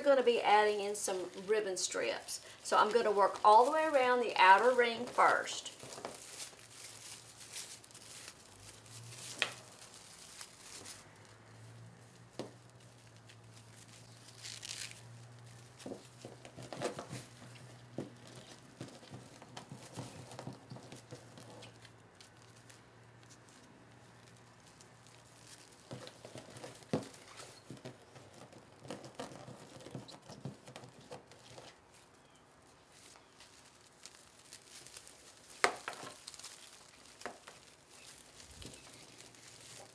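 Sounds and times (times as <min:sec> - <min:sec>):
fabric mesh rustling and crinkling: 0:00.0 - 0:39.9.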